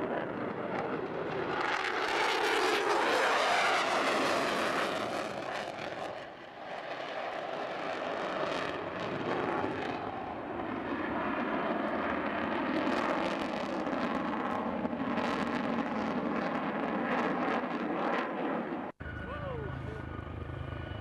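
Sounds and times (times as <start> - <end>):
aircraft engines droning: 0.0 - 13.4, 16.3 - 21.0.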